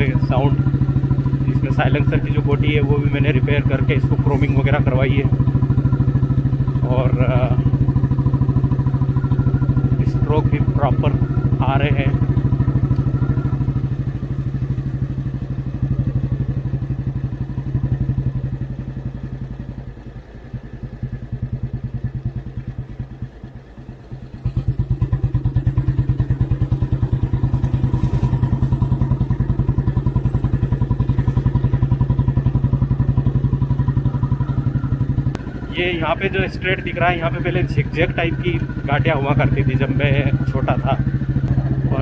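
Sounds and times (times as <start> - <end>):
motorcycle engine exhaust beats: 0.0 - 42.0.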